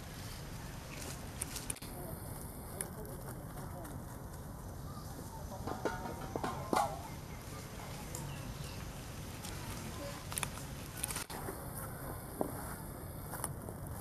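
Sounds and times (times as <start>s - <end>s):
outdoor background: 0.0s - 14.0s.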